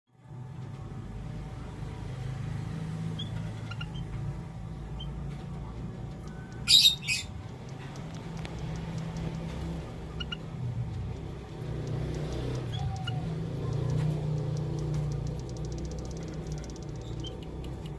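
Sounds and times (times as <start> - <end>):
birds chirping: 1.4 - 17.9
steady low hum: 3.5 - 17.9.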